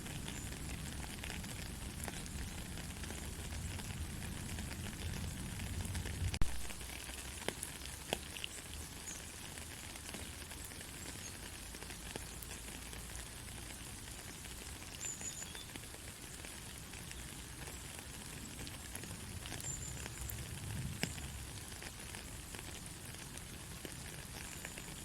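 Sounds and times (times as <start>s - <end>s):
soft rain hiss: 0.0s - 25.0s
drip ticks: 0.1s - 25.0s.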